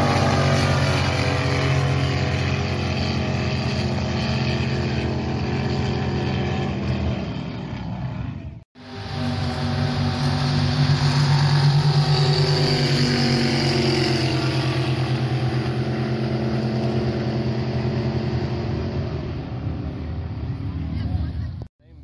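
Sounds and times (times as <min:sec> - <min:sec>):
jet boat engine at full throttle: 0:00.0 - 0:21.7.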